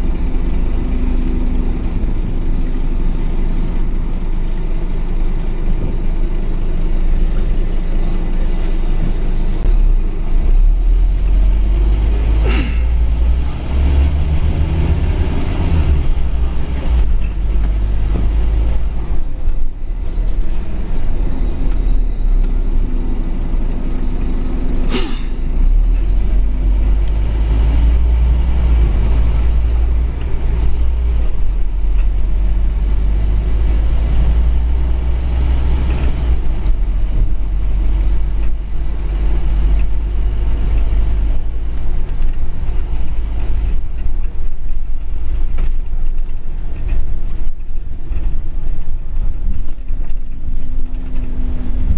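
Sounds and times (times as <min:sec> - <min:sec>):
bus diesel engine rumble: 0:00.0 - 0:51.9.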